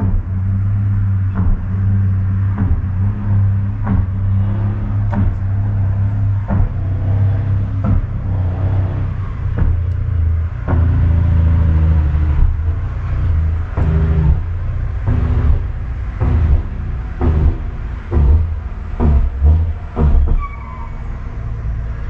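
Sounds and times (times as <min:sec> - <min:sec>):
engine rumbling: 0:00.0 - 0:22.0
short knocks: 0:01.3 - 0:20.4.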